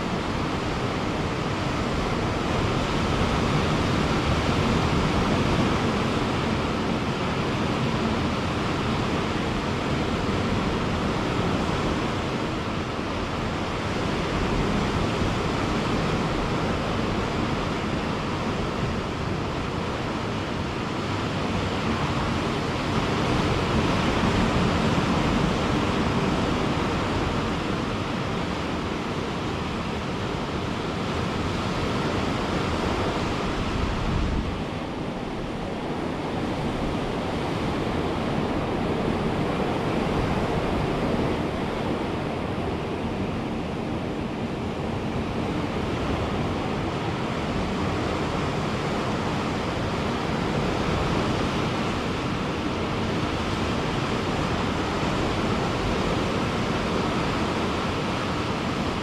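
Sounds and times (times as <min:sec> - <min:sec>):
ocean surf washing onto beach: 0:00.0 - 0:59.0.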